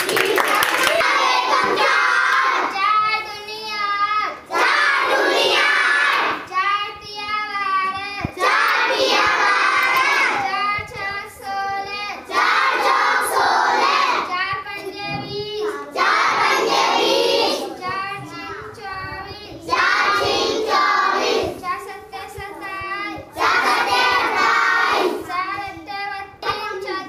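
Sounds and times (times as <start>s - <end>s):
girl singing unaccompanied: 0.4s - 27.0s.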